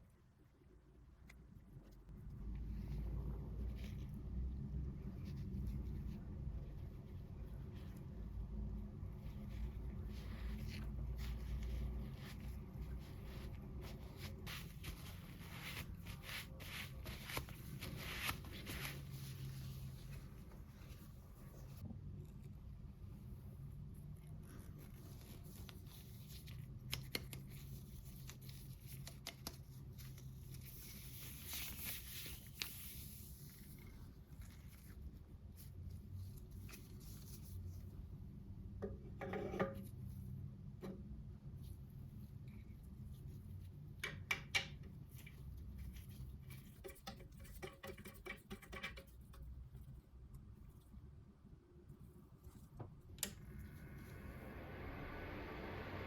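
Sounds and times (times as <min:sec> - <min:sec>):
soft rustling and handling: 0:00.0 - 0:54.2
low steady hum: 0:00.0 - 0:56.0.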